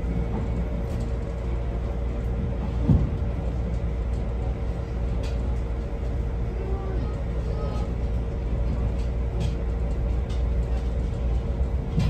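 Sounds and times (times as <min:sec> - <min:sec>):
train carriage rumbling: 0:00.0 - 0:12.0.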